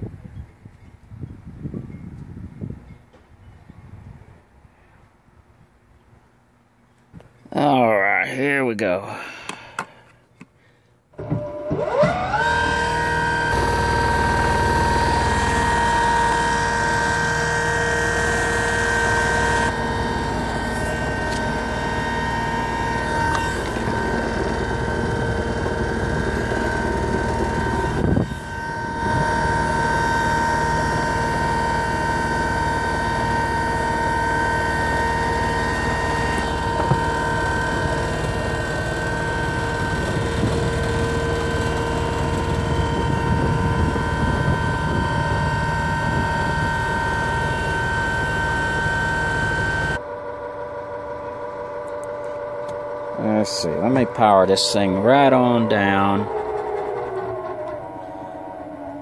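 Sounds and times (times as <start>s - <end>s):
electric motor whine: 11.1s - 59.0s.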